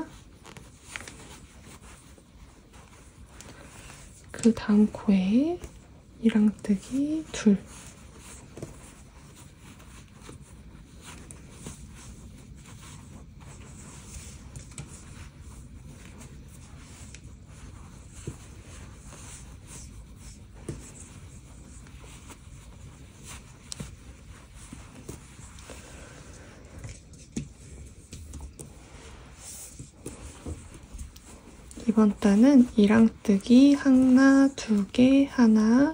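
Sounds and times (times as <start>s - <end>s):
yarn rustling and scraping: 0.0s - 35.9s.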